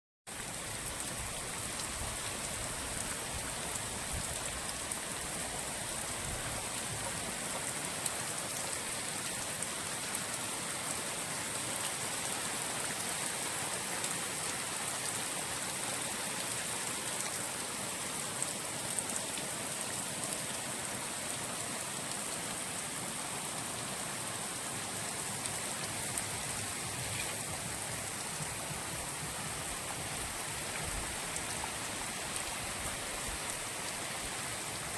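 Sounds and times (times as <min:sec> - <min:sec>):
light rain hiss: 0:00.3 - 0:34.9.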